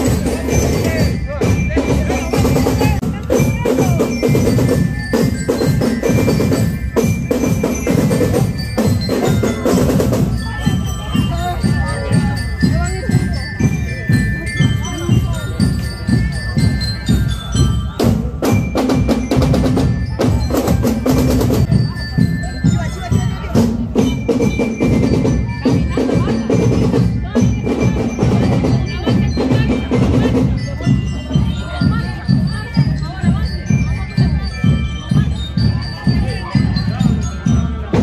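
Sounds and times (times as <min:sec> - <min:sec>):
drums beating parade rhythm: 0:00.0 - 0:38.0
glockenspiel melody: 0:00.0 - 0:38.0.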